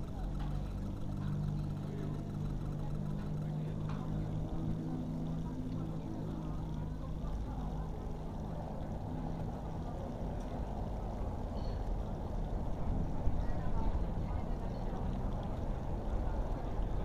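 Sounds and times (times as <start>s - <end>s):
background traffic rumble: 0.0s - 17.0s
faint distant voices: 0.0s - 17.0s
low engine hum: 0.0s - 17.0s.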